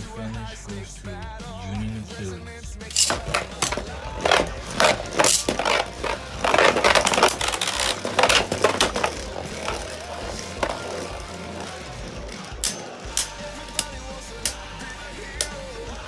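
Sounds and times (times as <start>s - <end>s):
spinning tops clacking: 2.9s - 15.8s.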